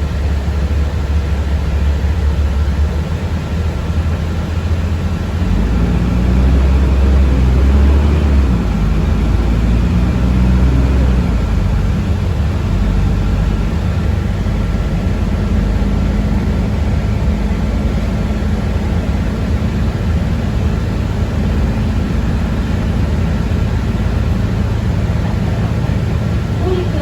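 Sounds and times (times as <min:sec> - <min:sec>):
bus interior rumble: 0:00.0 - 0:27.0.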